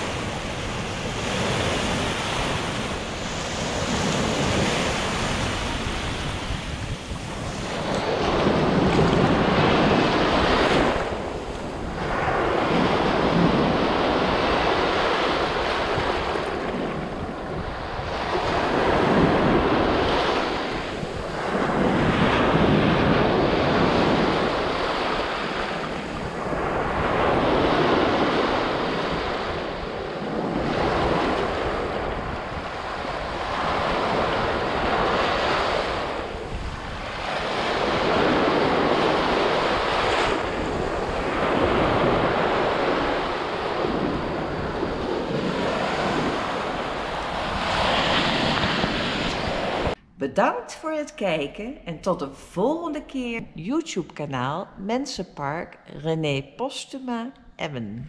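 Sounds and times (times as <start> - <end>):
waves washing in: 0.0 - 50.0
wind rumbling on microphone: 0.0 - 50.2.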